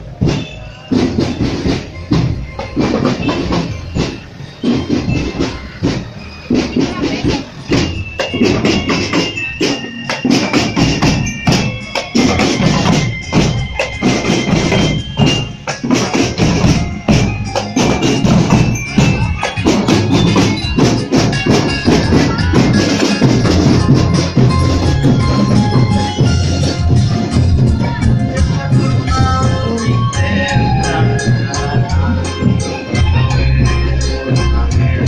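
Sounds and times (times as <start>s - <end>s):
loud percussion music: 0.0s - 35.0s.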